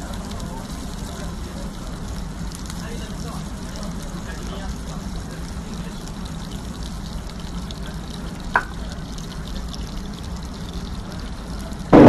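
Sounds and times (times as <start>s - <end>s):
liquid pouring hiss: 0.0s - 12.0s.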